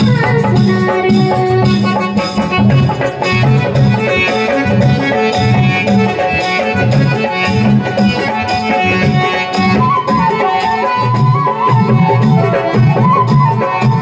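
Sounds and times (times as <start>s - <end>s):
folk melody over loudspeaker: 0.0s - 14.0s
steady drum beat: 0.0s - 14.0s.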